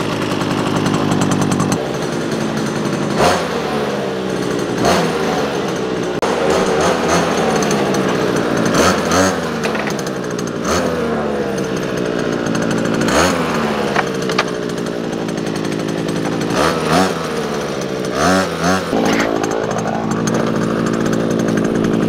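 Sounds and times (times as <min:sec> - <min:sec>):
two-stroke engine revving: 0:00.0 - 0:22.0.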